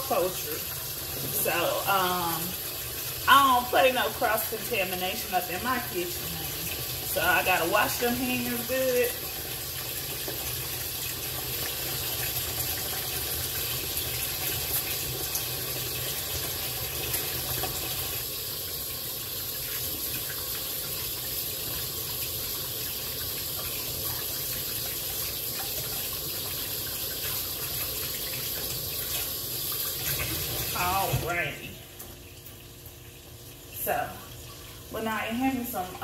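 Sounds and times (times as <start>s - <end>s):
faucet running: 0.0s - 36.0s.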